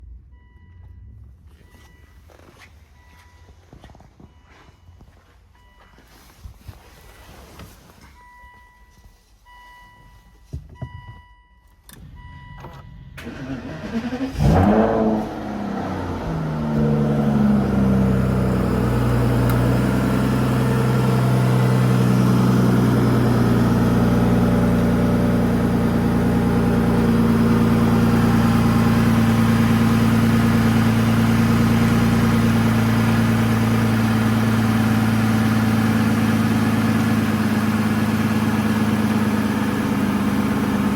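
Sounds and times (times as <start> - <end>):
car engine starting and idling: 5.2 - 40.9.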